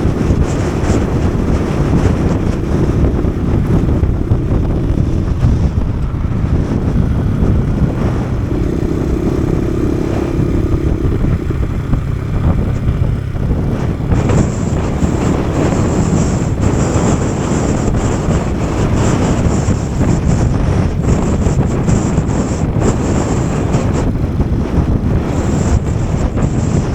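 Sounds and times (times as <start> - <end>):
motorcycle engine running: 0.0 - 26.9
wind buffeting microphone: 0.0 - 26.9.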